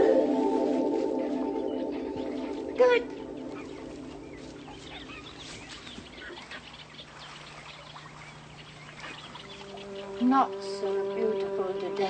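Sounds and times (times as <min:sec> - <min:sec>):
birds chirping and twittering: 0:00.0 - 0:12.0
faint steady low hum: 0:00.0 - 0:12.0.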